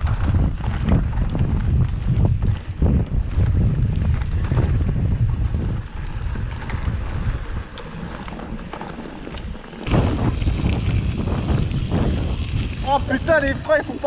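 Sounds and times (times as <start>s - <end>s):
bike tyres clicking and rattling: 0.0s - 14.0s
wind rumbling on microphone: 0.0s - 14.0s.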